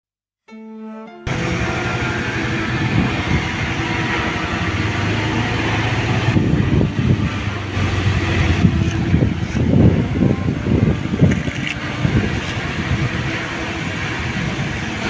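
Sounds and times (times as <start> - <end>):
machine engine rumbling: 1.3 - 15.0.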